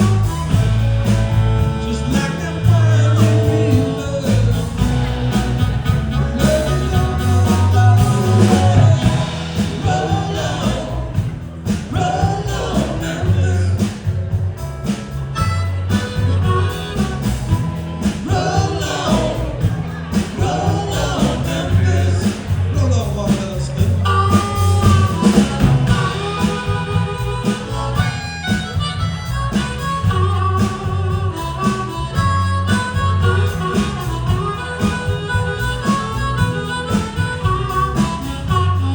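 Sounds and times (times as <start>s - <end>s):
harmonica bending notes: 0.0s - 22.6s, 23.8s - 38.9s
blues-rock band playing: 0.0s - 38.9s.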